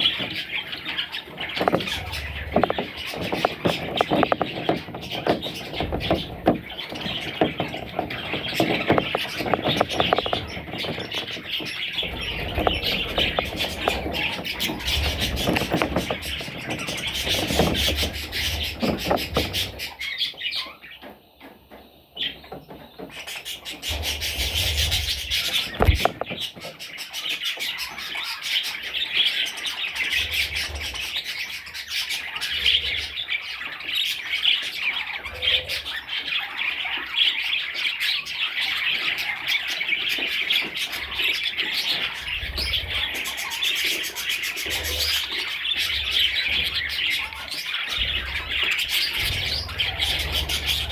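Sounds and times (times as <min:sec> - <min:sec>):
budgerigars chirping: 0:00.0 - 0:21.1, 0:22.2 - 0:50.9.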